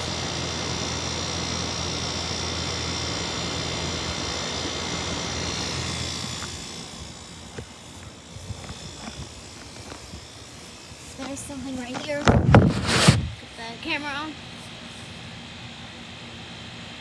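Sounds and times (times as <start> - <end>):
air conditioner unit humming: 0.0 - 17.0
high whine: 0.0 - 17.0.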